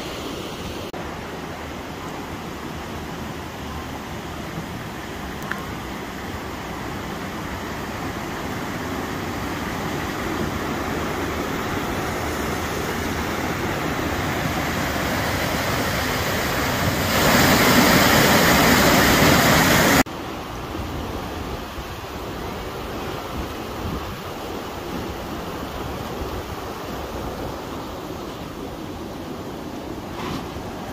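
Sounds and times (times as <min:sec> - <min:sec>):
stream flowing: 0:00.0 - 0:30.9
water rushing over a weir: 0:00.0 - 0:30.9.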